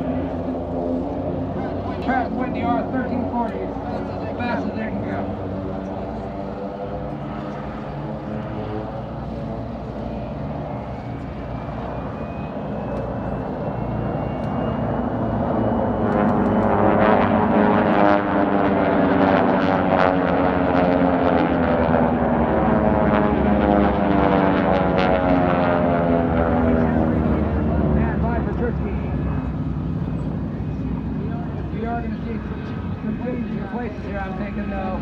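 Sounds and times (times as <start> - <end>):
radial plane engines at full power: 0.0 - 35.0.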